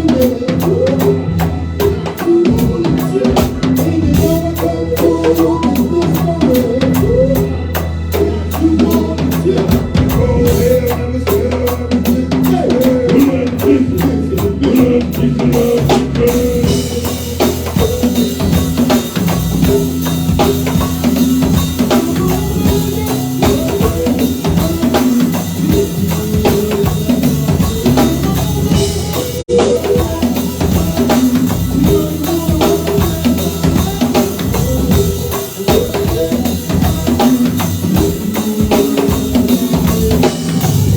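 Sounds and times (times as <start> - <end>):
drum kit beat: 0.0 - 40.9
live band playing: 0.0 - 40.9.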